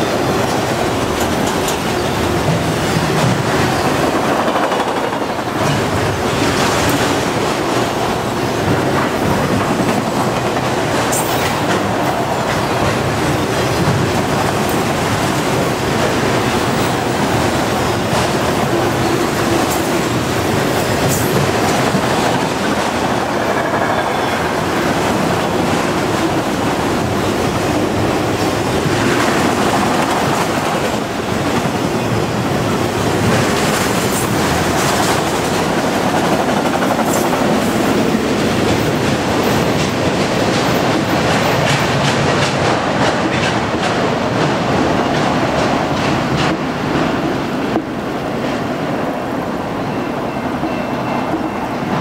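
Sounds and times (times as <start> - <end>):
wheels clacking over rail joints: 0.0 - 48.7
steel wheels rumbling on rail: 0.0 - 52.0.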